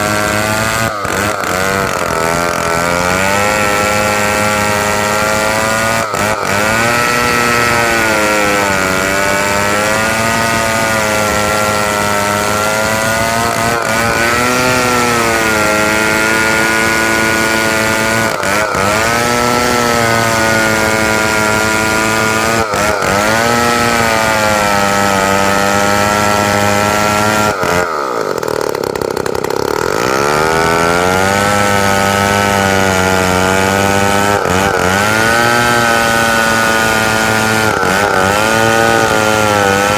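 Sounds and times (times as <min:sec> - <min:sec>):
chainsaw ripping timber: 0:00.0 - 0:39.9.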